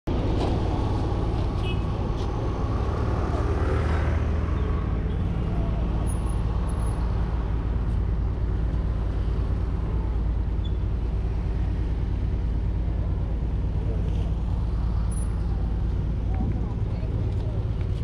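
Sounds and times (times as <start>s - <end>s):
engine idling rumble: 0.1s - 18.0s.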